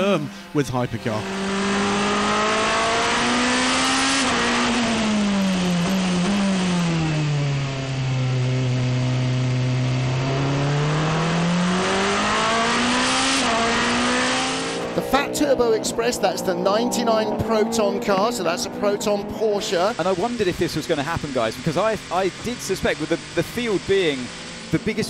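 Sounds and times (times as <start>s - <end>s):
car engine revving: 0.9s - 25.0s.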